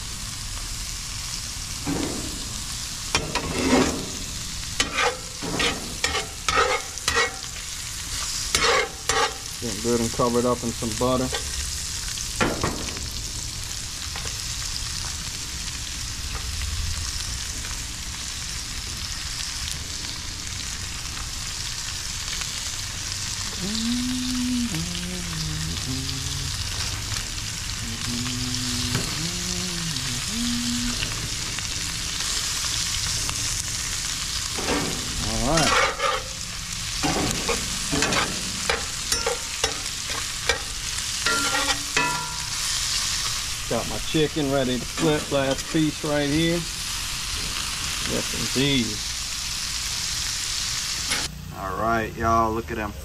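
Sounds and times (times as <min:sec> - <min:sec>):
frying sizzle: 0:00.0 - 0:52.9.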